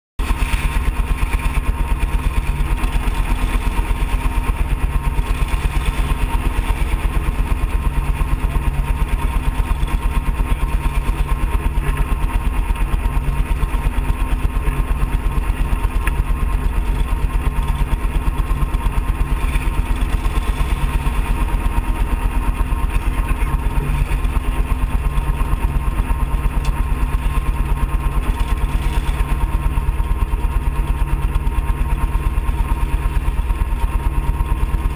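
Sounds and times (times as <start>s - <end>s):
kart engine idling: 0.2s - 34.9s.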